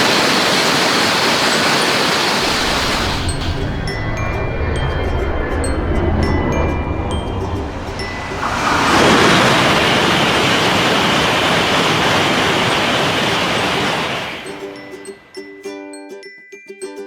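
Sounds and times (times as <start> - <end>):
train passing: 0.0 - 15.6.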